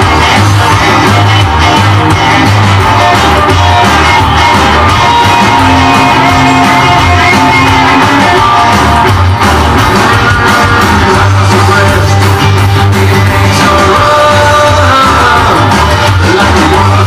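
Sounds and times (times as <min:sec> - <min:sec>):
bass line: 0:00.0 - 0:17.0
electric guitar: 0:00.0 - 0:17.0
rockabilly record playing: 0:00.0 - 0:17.0.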